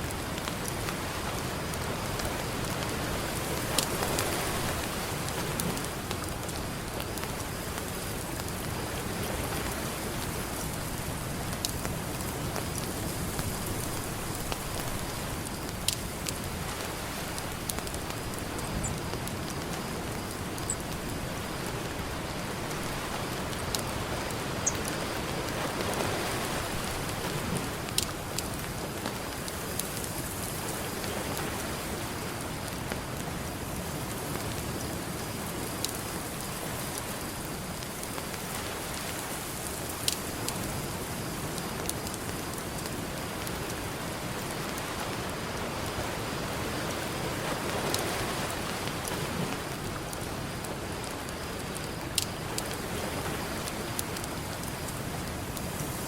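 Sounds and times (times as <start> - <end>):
ocean surf: 0.0 - 15.6, 16.2 - 41.1, 41.7 - 56.0
campfire crackling: 0.0 - 56.0.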